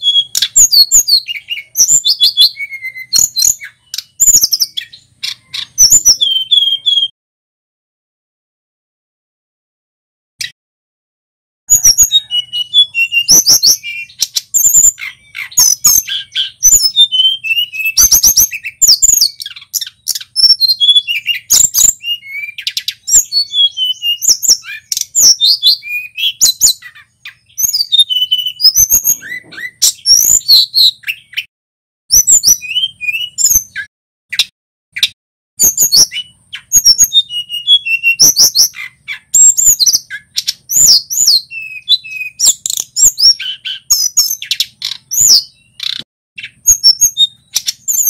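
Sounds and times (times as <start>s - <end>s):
bird singing chirps and trills: 0.0s - 7.1s, 11.7s - 31.5s, 32.1s - 48.0s.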